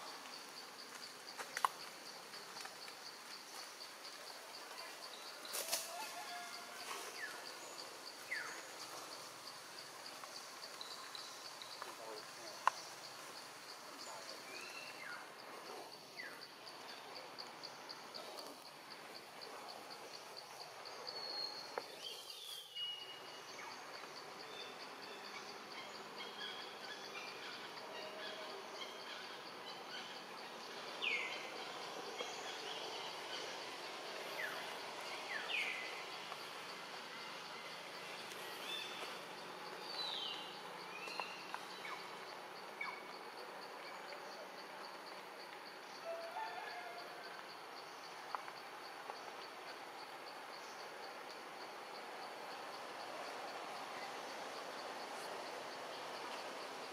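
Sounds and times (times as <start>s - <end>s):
insect chirping: 0.0s - 56.9s
outdoor background hiss: 0.0s - 56.9s.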